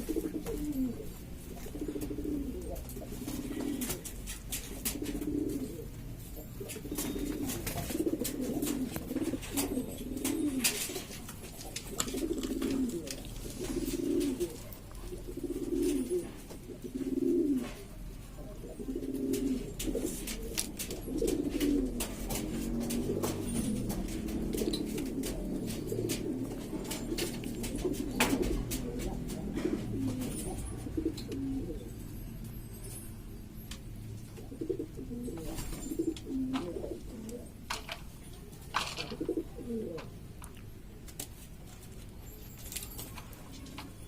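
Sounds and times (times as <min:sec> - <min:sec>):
pigeons cooing: 0:00.0 - 0:32.1, 0:34.2 - 0:37.9, 0:38.8 - 0:40.2.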